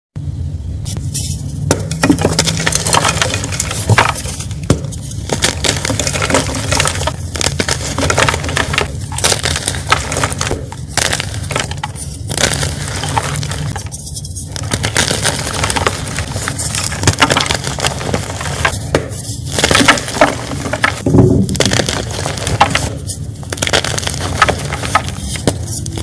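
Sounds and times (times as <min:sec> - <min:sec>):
steady low hum: 0:00.2 - 0:26.0
chalk being crushed: 0:00.9 - 0:26.0.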